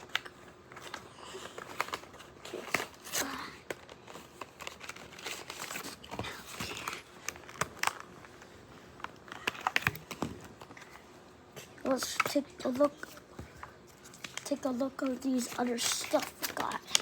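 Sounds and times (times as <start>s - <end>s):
packaging crinkling and tearing: 0.0s - 11.0s, 11.9s - 17.0s.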